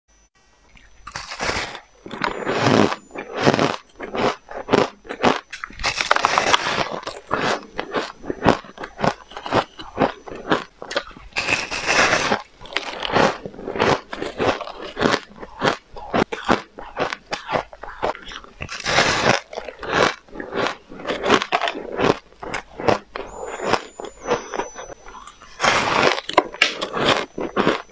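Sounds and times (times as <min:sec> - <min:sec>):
chewing crunchy ice: 0:00.7 - 0:27.9.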